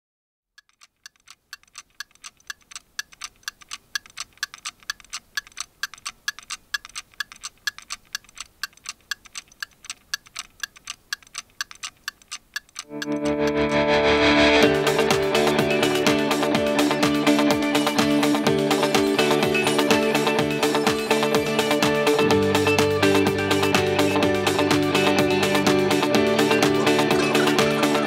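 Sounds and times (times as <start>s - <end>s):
fast clock-like ticking: 0.5s - 13.7s, 14.7s - 28.0s.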